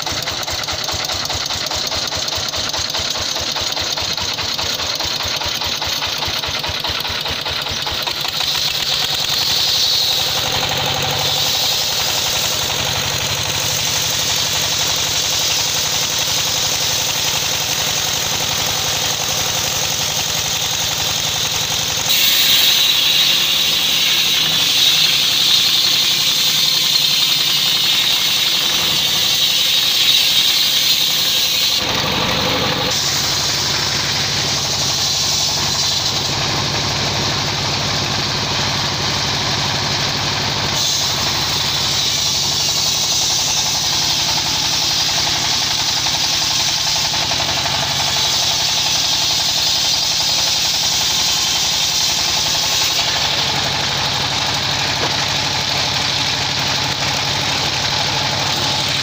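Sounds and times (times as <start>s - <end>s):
saw blade cutting log: 0.0s - 37.9s, 39.7s - 59.0s
sawmill engine running: 0.0s - 59.0s.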